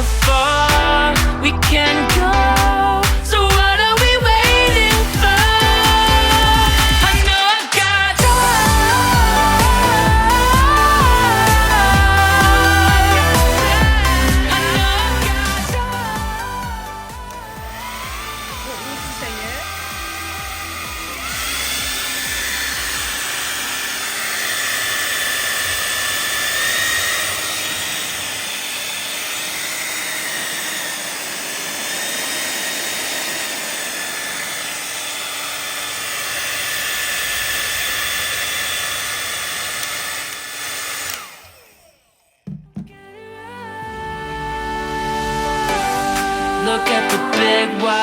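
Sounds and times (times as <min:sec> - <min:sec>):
hair dryer running: 0:00.0 - 0:48.0.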